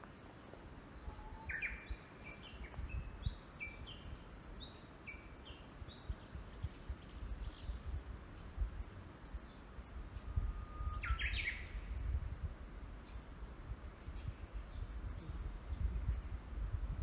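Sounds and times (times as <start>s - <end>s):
songbird singing: 0.0s - 17.0s
wind buffeting microphone: 1.0s - 4.3s, 5.9s - 17.0s.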